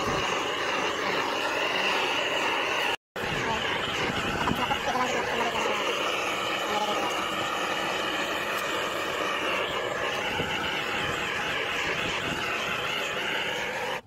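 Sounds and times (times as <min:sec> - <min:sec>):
gas torch burning: 0:00.0 - 0:14.0.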